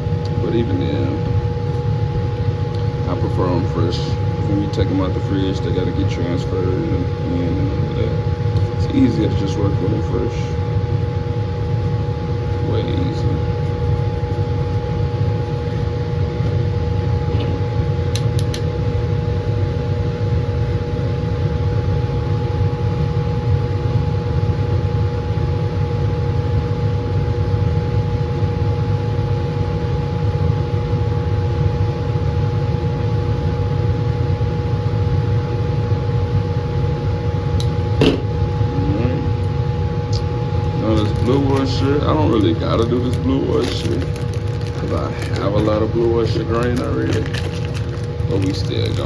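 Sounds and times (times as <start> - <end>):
blower fan running: 0.0 - 49.0.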